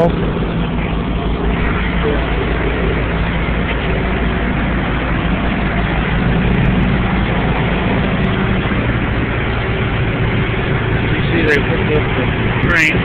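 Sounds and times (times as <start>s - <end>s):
heavy vehicle engines running: 0.0s - 13.0s.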